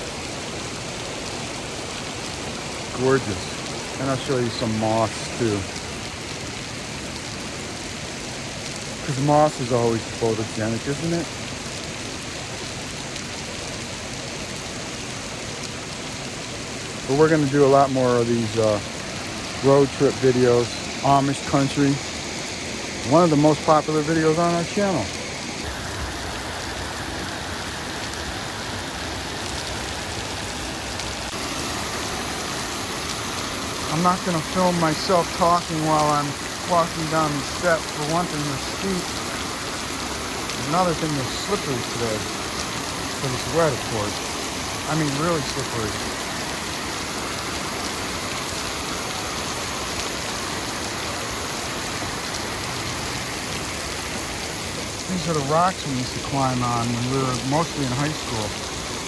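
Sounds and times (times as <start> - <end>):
rain falling: 0.0 - 59.0
waterfall roar: 0.0 - 59.0.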